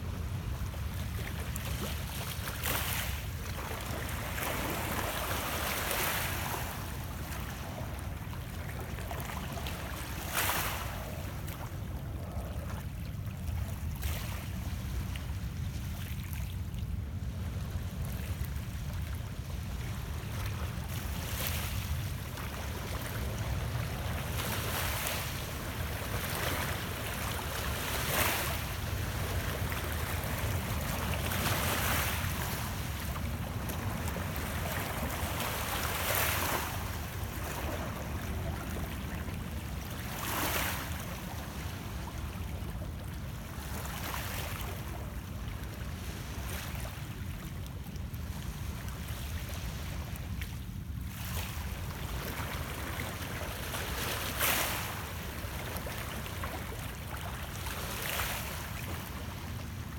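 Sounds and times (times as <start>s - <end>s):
wind rumble on microphone: 0.0s - 57.1s
waves lapping against rocks: 0.2s - 59.9s.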